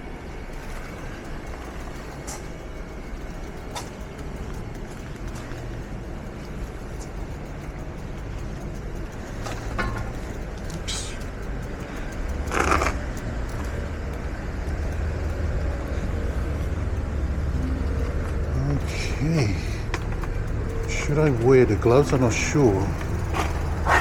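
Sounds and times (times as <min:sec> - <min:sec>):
hissing swooshes of passing vehicles: 0:00.0 - 0:24.0
low road rumble: 0:00.0 - 0:24.0.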